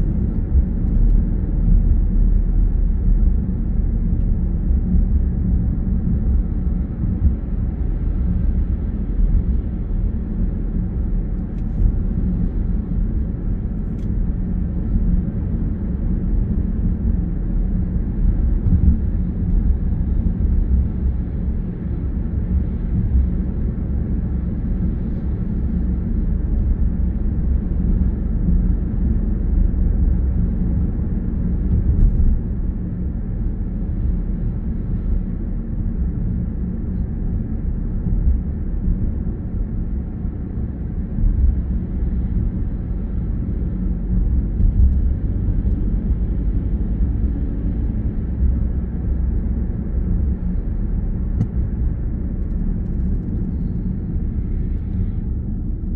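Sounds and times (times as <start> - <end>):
car road rumble from inside: 0.0 - 55.9.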